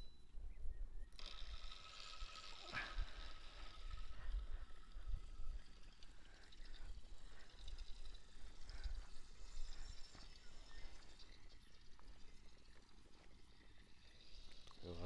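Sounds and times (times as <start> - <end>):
faint high whir: 0.0 - 15.0.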